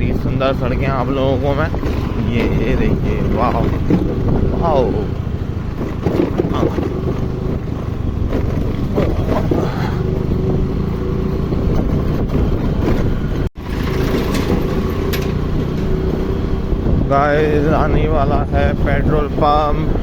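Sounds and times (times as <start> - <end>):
road noise: 0.0 - 20.0
scooter engine hum: 0.0 - 20.0.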